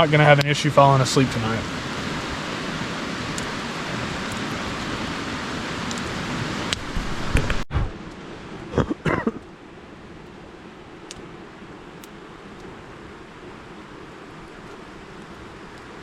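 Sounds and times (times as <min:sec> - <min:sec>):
creek water flowing: 0:00.0 - 0:16.0.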